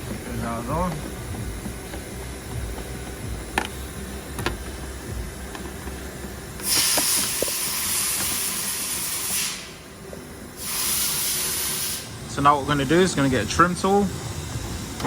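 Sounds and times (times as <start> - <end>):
loud steady hiss: 0.0 - 15.0.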